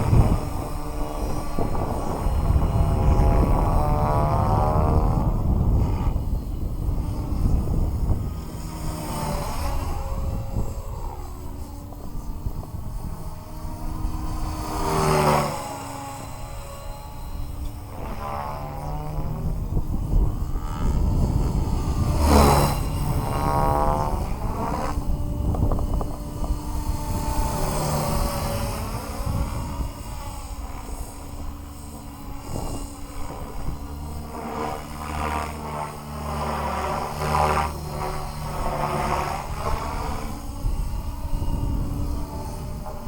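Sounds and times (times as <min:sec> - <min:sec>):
radio-controlled helicopter flying: 0:00.0 - 0:43.0.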